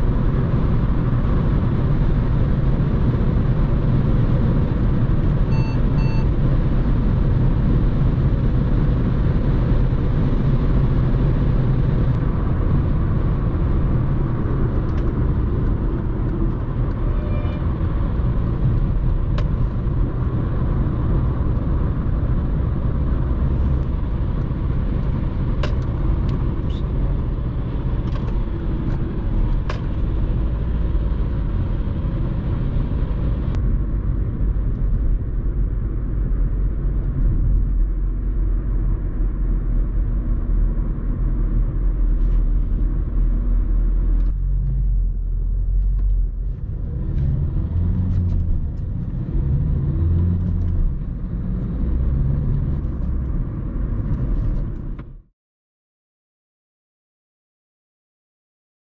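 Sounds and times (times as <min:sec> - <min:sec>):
car engine: 0:00.0 - 0:55.2
road and wind noise: 0:00.0 - 0:55.3.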